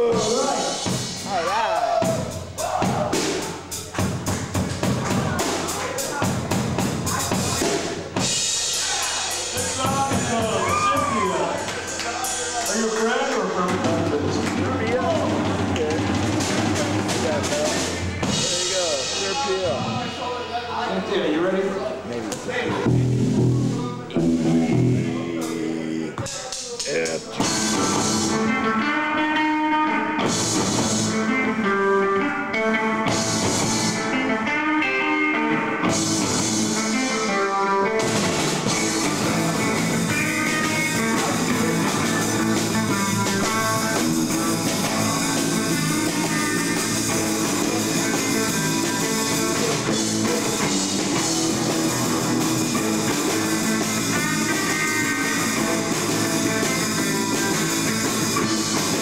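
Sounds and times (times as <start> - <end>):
drum kit and cymbals: 0.0 - 20.9, 22.8 - 28.9, 30.1 - 31.5, 33.0 - 34.2, 35.8 - 37.4, 38.0 - 59.0
guitar riff: 0.0 - 21.2, 22.6 - 26.2, 27.2 - 59.0
live rock band playing: 0.0 - 21.8, 22.6 - 59.0.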